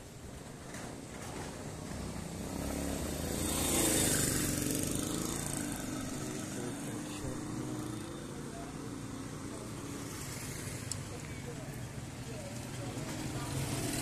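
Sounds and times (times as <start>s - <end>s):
vehicle passing by: 1.4s - 14.0s.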